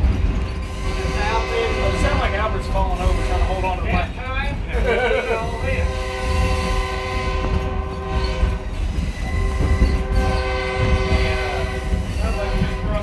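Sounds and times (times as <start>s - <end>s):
rail car rumbling on rails: 0.0s - 13.0s
locomotive air horn chord: 0.6s - 3.8s, 5.6s - 13.0s.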